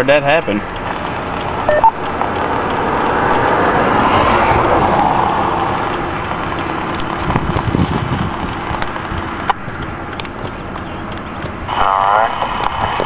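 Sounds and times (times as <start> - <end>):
road vehicle passing by: 0.2 - 13.0.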